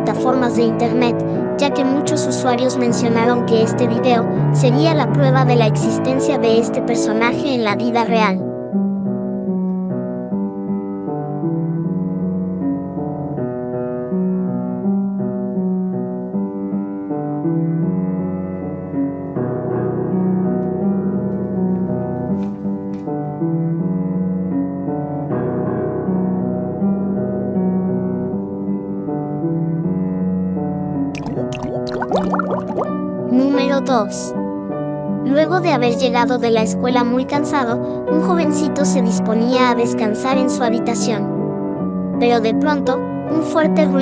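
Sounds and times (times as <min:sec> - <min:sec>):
background piano music: 0:00.0 - 0:44.0.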